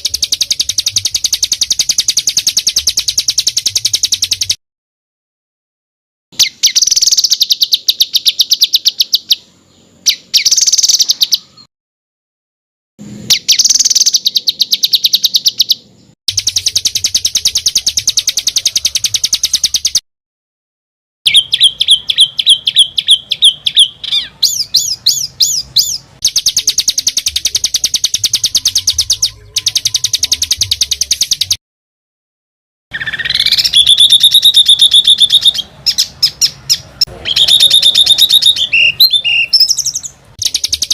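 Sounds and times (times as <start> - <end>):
songbird trilling: 0.0 - 4.6, 6.4 - 11.7, 13.3 - 20.0, 21.3 - 31.6, 32.9 - 40.9.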